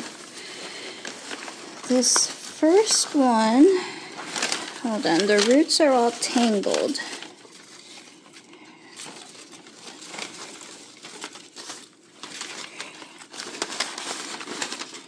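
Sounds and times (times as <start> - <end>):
paper packing crinkling and rustling: 0.0 - 15.0.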